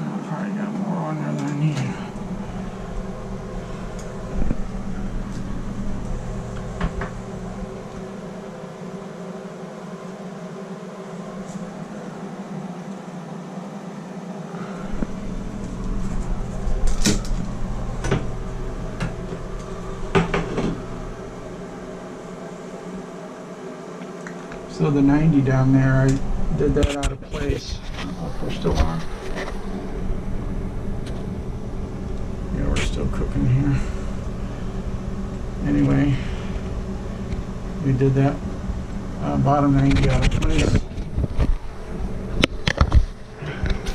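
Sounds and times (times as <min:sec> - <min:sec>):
torch flame burning: 0:01.8 - 0:13.5, 0:14.5 - 0:43.9.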